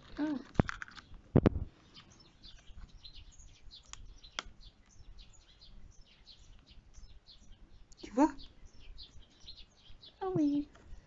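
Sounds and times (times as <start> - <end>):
faint bird chirps: 1.8 - 11.0.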